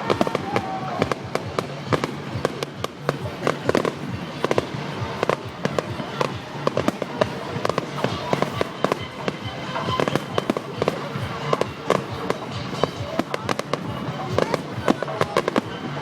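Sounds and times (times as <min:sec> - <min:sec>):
fireworks banging and crackling: 0:00.0 - 0:16.0
music playing: 0:00.0 - 0:16.0.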